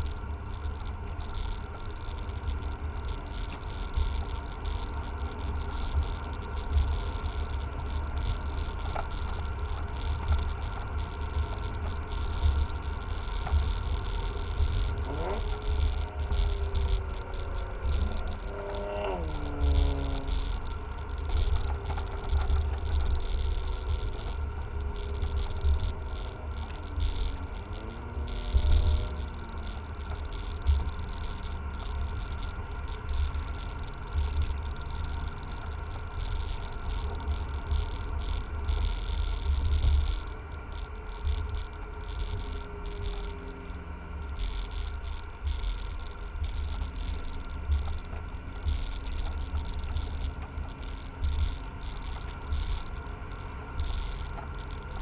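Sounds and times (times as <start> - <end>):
car engine revving: 0.0 - 55.0
road and wind rumble: 0.0 - 55.0.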